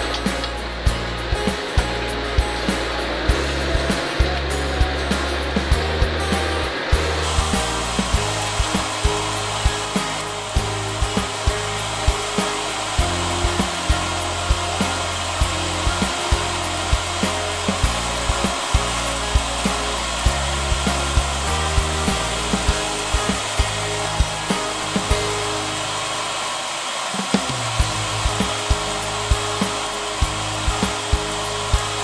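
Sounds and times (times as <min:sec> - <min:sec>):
background music with beat: 0:00.0 - 0:32.0
food sizzling in oil: 0:00.0 - 0:32.0.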